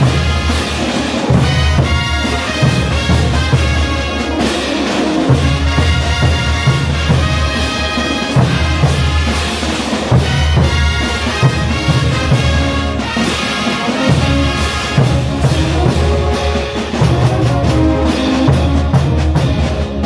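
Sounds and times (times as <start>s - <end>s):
brass band playing: 0.0s - 20.0s
trumpets and trombones: 0.0s - 20.0s.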